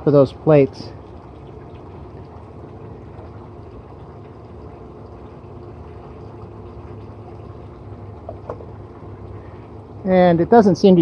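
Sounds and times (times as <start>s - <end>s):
running water: 0.0s - 11.0s
steady low hum: 0.0s - 11.0s.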